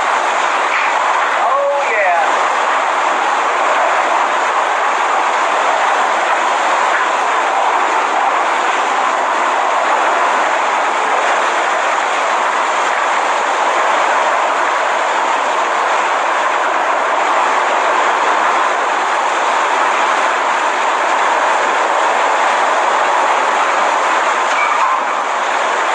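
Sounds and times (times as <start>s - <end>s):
heavy rain: 0.0s - 25.9s
strong wind: 0.0s - 25.9s.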